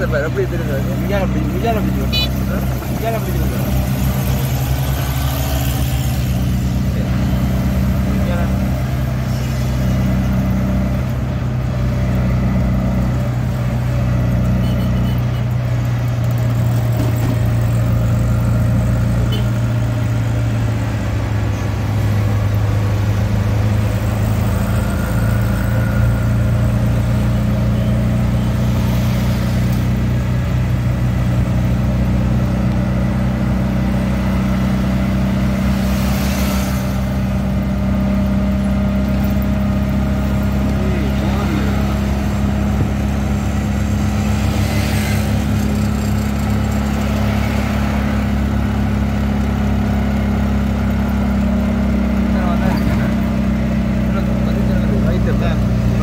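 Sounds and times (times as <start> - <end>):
auto-rickshaw engine running: 0.0 - 56.0.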